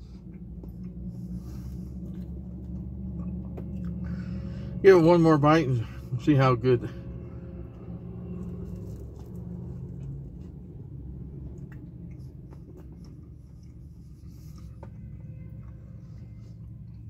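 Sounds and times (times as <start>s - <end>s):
person chewing sandwich: 0.0s - 4.4s, 7.5s - 17.0s
steady low hum: 0.0s - 17.0s.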